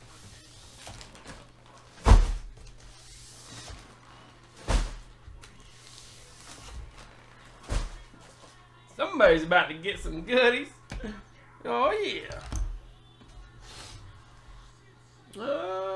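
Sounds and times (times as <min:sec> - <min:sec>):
faint room noise: 0:00.0 - 0:15.9.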